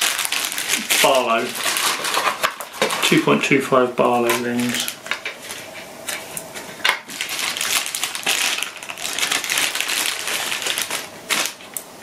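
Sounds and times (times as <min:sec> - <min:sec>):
plastic bag crinkling: 0:00.0 - 0:03.6, 0:04.2 - 0:06.2, 0:06.8 - 0:12.0.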